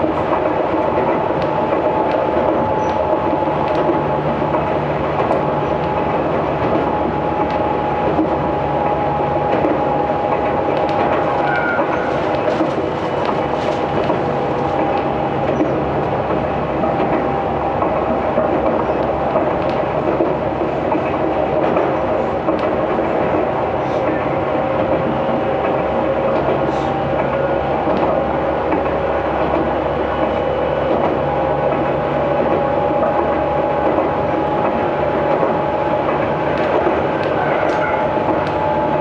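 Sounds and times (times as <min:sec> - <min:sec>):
light track clicks: 0:00.0 - 0:39.0
wheels rumbling on rail: 0:00.0 - 0:39.0.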